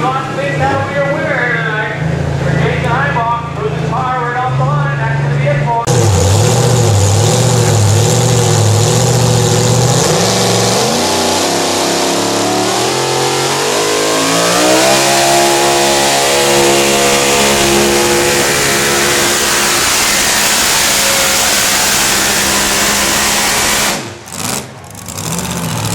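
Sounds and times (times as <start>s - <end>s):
truck engine revving: 0.0s - 25.9s.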